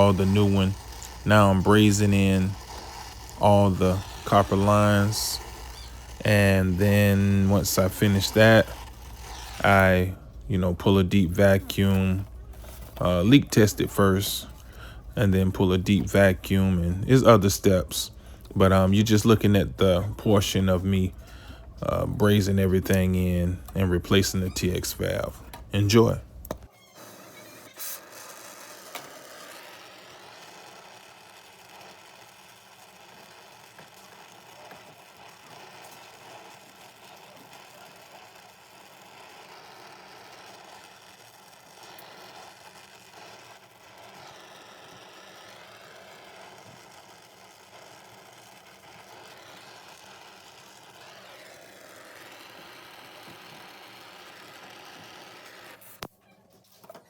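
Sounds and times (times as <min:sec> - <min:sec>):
torch flame burning: 0:00.0 - 0:56.1.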